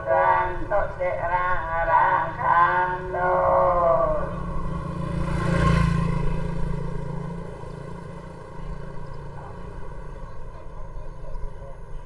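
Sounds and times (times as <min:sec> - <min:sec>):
vehicle engine rumble passing by: 0:00.6 - 0:12.0.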